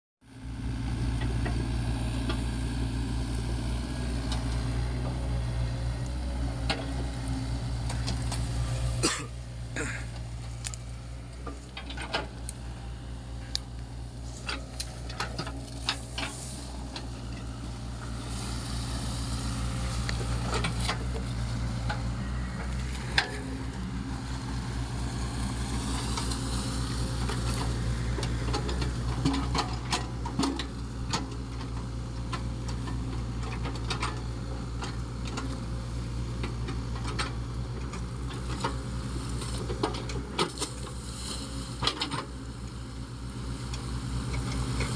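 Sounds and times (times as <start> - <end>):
excavator diesel engine running: 0.2 - 44.9.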